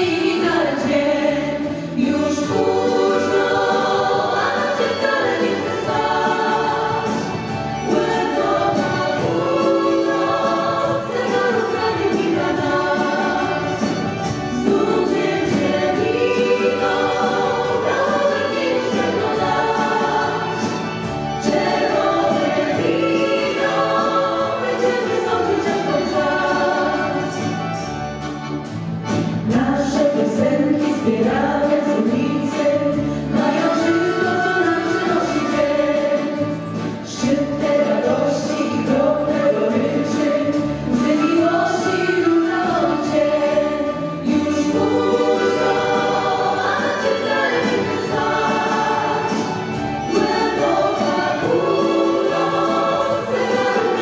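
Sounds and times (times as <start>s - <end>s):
women singing in harmony: 0.0s - 27.9s, 29.4s - 54.0s
live band with accordions: 0.0s - 54.0s.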